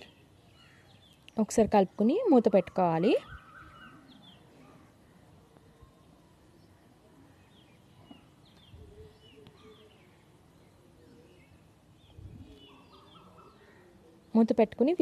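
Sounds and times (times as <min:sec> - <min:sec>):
faint bird chirps: 0:00.0 - 0:01.5, 0:02.4 - 0:14.6.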